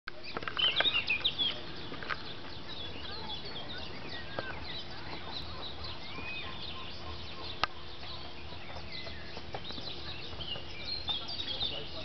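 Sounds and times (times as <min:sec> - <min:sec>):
birds chirping and calling: 0:00.1 - 0:12.0.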